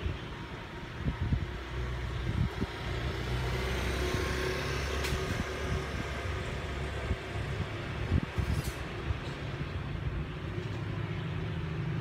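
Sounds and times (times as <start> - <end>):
low traffic engine hum: 0.0 - 12.0
vehicles passing: 0.0 - 12.0.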